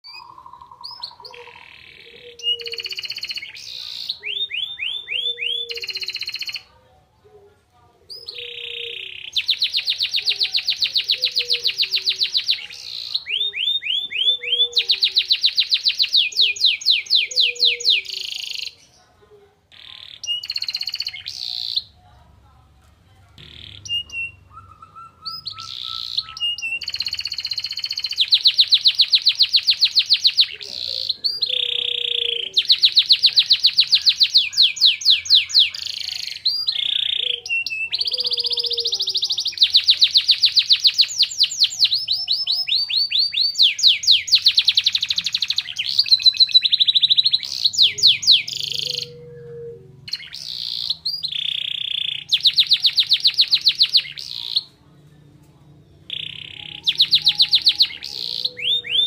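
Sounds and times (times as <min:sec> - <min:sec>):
canary singing trills: 0:00.0 - 0:06.8, 0:07.4 - 0:22.0, 0:23.3 - 0:59.0.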